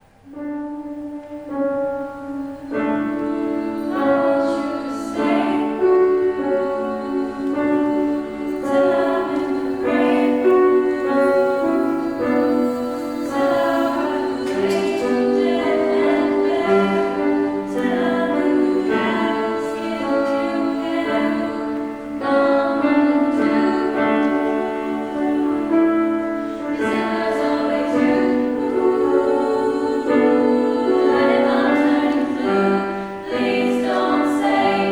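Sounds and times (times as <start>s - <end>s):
vocal group singing in harmony: 0.3s - 34.9s.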